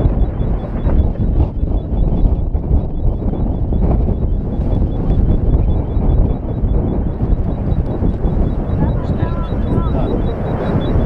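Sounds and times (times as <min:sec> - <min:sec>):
lava fountain rumbling: 0:00.0 - 0:11.0
wind buffeting microphone: 0:00.0 - 0:11.0.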